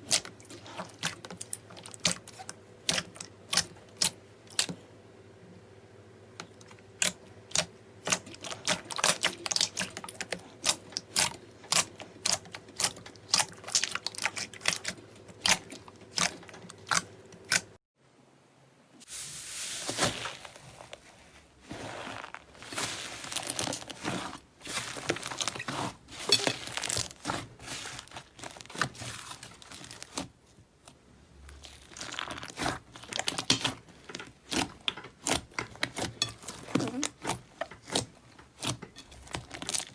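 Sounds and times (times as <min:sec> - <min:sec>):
wet slime crackling and squishing: 0:00.0 - 0:04.8, 0:06.4 - 0:17.8, 0:19.0 - 0:39.9.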